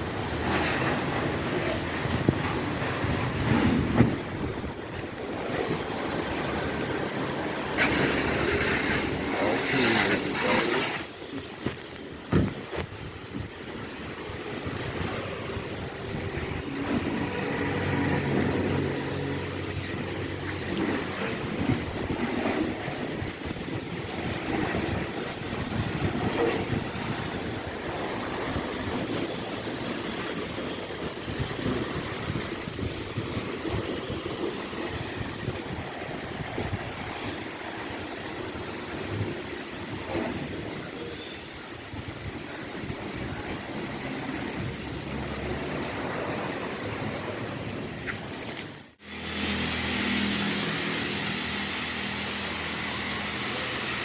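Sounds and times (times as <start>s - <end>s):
car wash machinery hissing: 0.0s - 54.0s.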